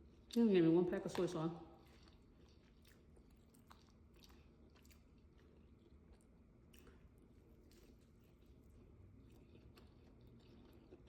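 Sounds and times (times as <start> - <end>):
chewing with soft crunches: 0.0 - 11.0.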